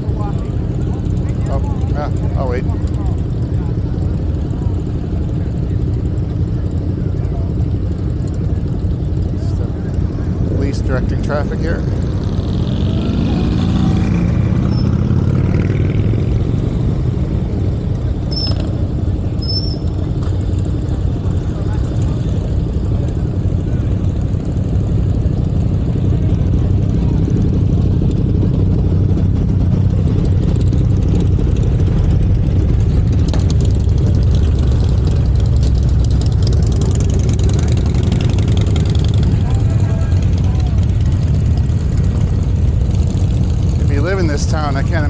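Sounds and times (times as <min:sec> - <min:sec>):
motorcycle engines rumbling: 0:00.0 - 0:45.0.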